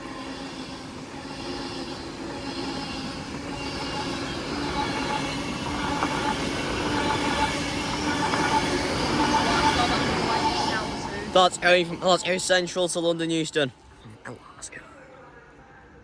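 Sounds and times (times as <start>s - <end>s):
train wheels rumbling on rail: 0.0s - 13.1s
train traction hum: 0.0s - 14.2s.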